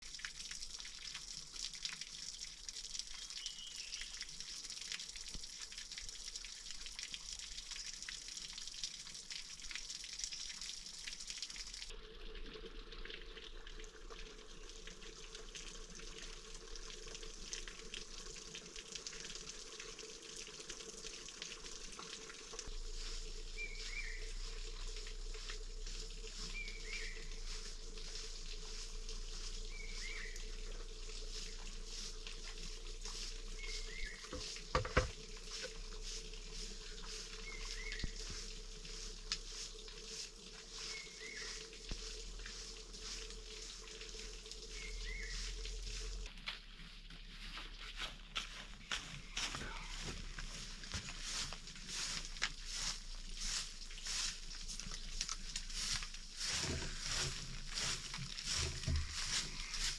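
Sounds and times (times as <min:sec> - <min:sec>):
water running and trickling: 0:00.0 - 0:59.9.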